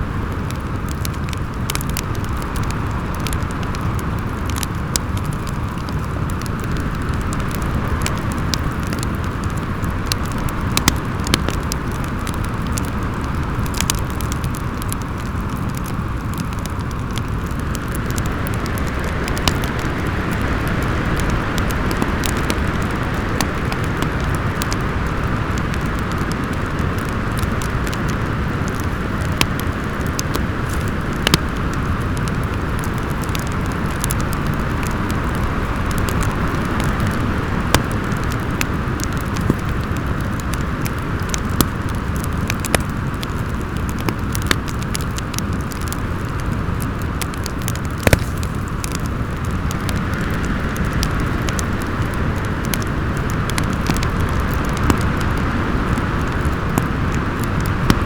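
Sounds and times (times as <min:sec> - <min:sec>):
storm wind howling: 0:00.0 - 0:58.0
wood fire crackling and popping: 0:00.0 - 0:58.0.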